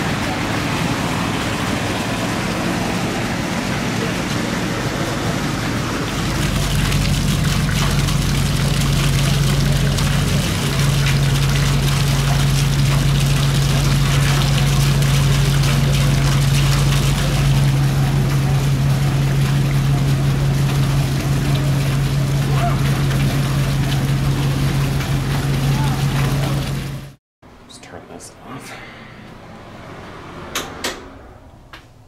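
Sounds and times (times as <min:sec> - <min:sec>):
rain spattering on car: 0:00.0 - 0:27.2
car engine and road drone: 0:00.0 - 0:32.0.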